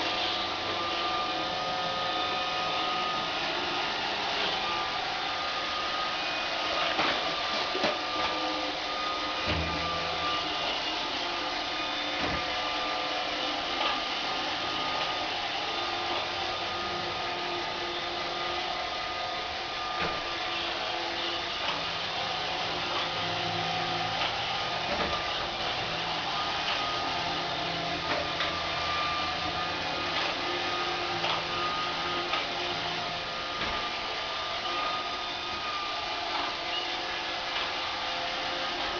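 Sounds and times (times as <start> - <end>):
robot vacuum motor whirring: 0.0 - 38.9.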